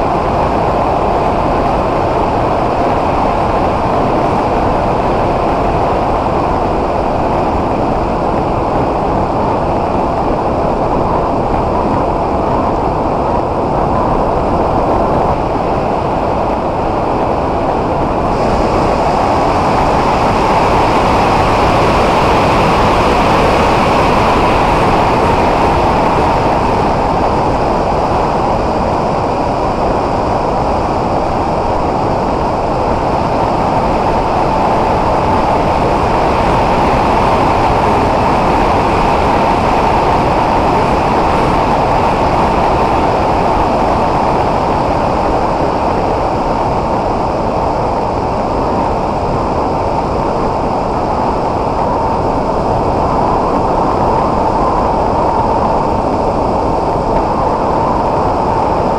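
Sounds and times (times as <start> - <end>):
wind rushing: 0.0 - 58.9.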